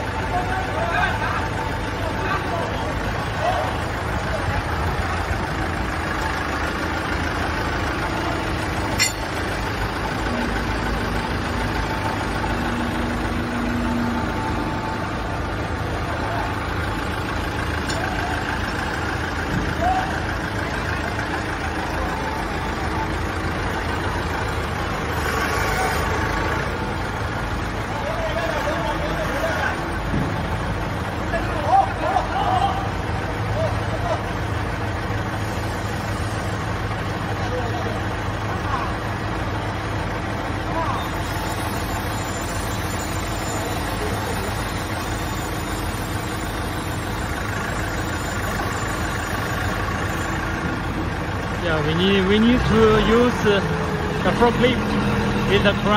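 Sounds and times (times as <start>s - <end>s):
crane and forklift engines rumbling: 0.0s - 55.9s.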